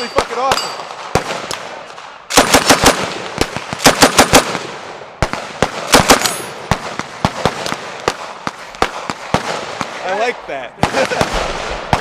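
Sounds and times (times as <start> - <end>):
single gunshots: 0.0 - 12.0.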